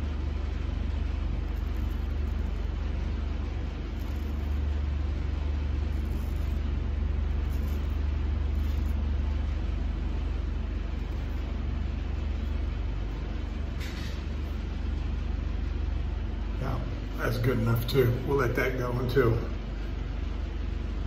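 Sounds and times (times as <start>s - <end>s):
low machine drone: 0.0s - 21.0s.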